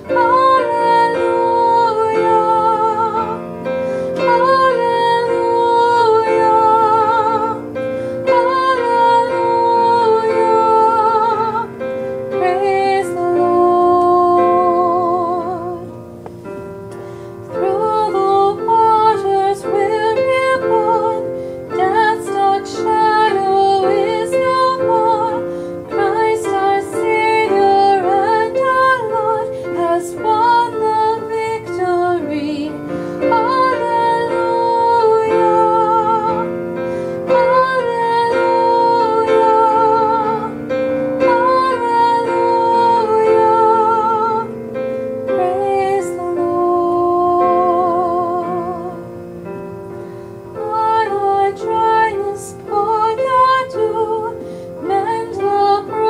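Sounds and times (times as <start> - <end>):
woman singing with vibrato: 0.0 - 16.0, 17.4 - 49.3, 50.5 - 56.0
piano accompaniment: 0.0 - 56.0.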